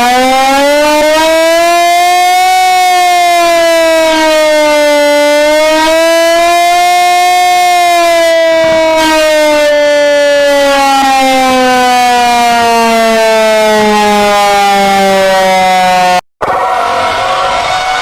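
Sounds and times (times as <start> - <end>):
siren winding down: 0.0 - 18.0.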